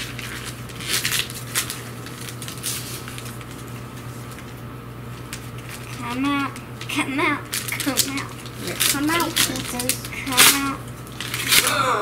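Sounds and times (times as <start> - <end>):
paper rustling: 0.0 - 6.6, 7.5 - 11.7
steady low hum: 0.0 - 12.0.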